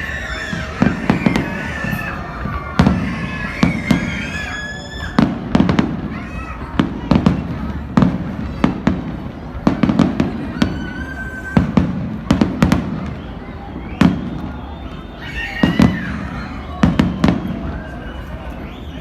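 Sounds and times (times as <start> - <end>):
sharp firework bangs: 0.4 - 17.8.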